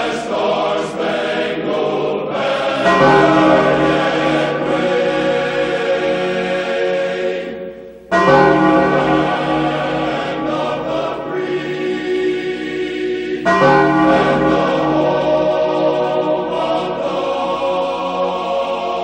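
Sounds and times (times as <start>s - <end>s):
choir singing held chords: 0.0s - 19.0s.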